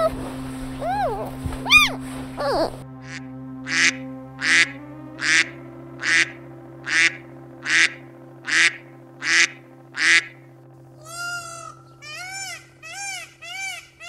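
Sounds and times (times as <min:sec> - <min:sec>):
faint steady hum: 0:00.0 - 0:14.0
duck quacking: 0:00.8 - 0:10.4, 0:11.0 - 0:14.0.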